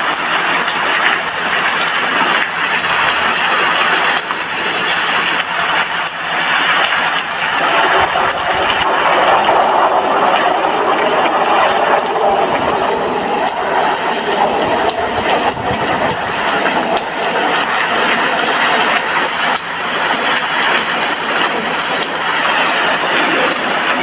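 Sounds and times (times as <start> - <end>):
rain drop ticks: 0.0 - 24.0
rain hissing on window: 0.0 - 24.0.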